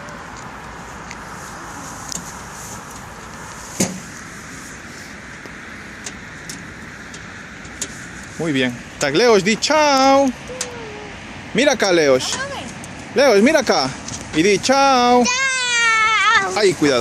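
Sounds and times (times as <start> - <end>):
distant road traffic hum: 0.0 - 17.0.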